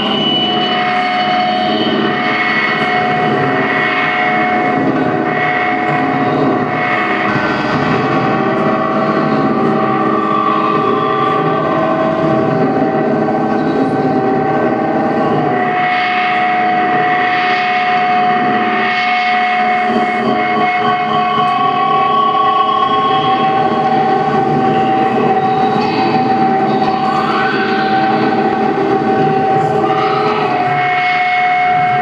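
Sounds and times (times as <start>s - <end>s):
electronic drone music: 0.0s - 32.0s.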